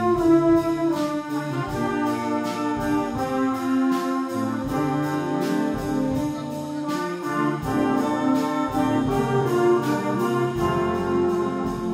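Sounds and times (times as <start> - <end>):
brass wind band playing chords: 0.0 - 11.9.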